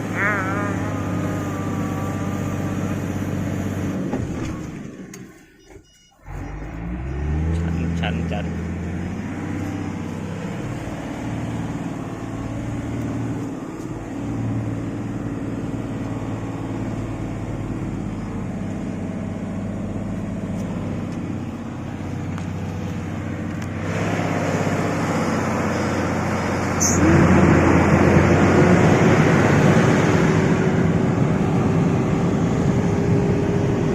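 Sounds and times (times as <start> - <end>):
truck diesel engine under load: 0.0 - 33.9.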